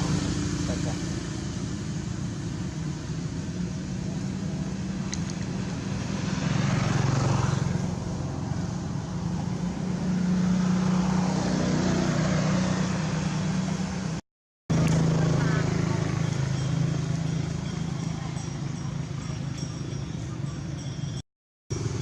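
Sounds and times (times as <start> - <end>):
vehicle engine running: 0.0 - 9.8, 12.9 - 21.1, 21.7 - 22.0.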